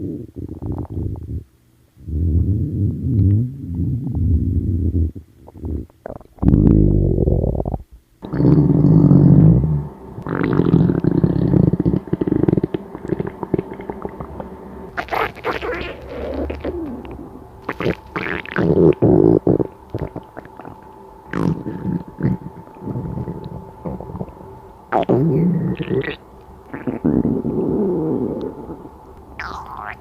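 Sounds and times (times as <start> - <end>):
stomach growling: 0.0 - 30.0.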